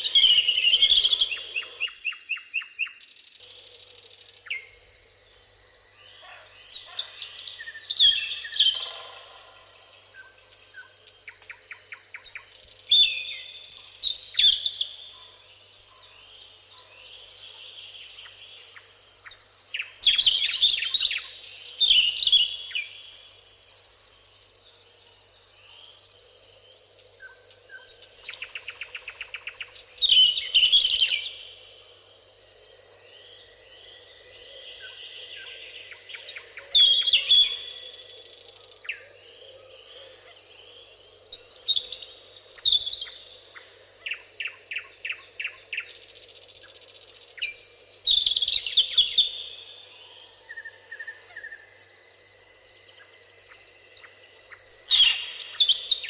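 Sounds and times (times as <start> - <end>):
faint bird chirps and calls: 0.0 - 5.1, 5.9 - 56.0
bird singing loud song phrases: 0.0 - 56.0.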